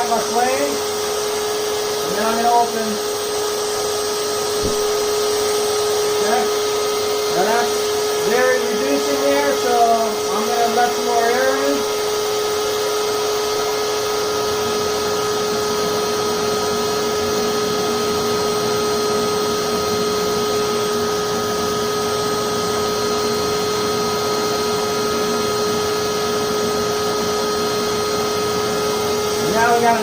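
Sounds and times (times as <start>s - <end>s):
blower motor whine: 0.0s - 30.0s.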